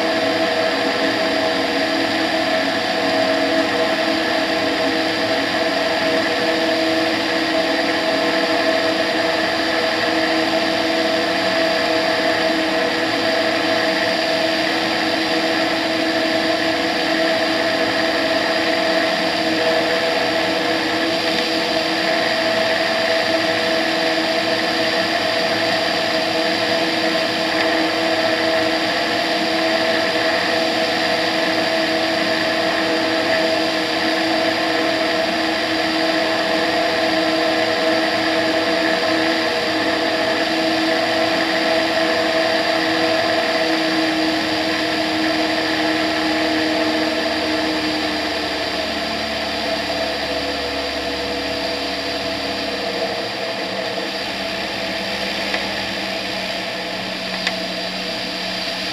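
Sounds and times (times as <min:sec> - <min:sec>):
ultralight engine and propeller droning: 0:00.0 - 0:58.9.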